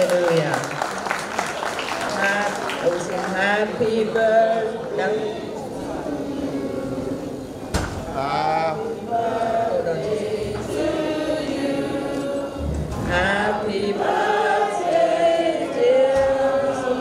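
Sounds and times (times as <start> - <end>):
crowd singing together: 2.9 - 17.0.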